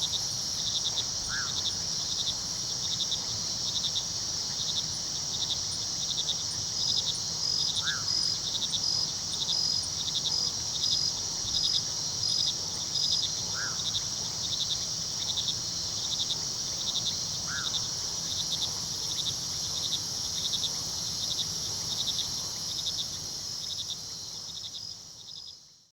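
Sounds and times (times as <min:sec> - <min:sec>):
crickets trilling: 0:00.0 - 0:25.8.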